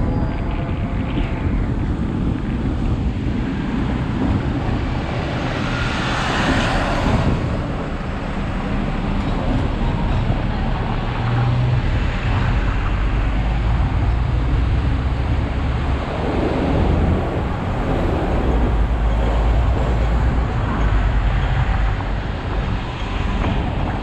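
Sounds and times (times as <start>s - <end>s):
street traffic: 0.0s - 24.0s
tram rumbling on rails: 0.0s - 24.0s.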